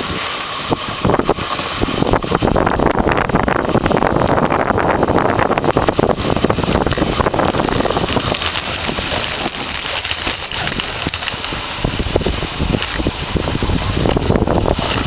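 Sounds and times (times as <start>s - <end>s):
sled runners hissing on snow: 0.0s - 15.0s
wind rushing on microphone: 0.0s - 15.0s.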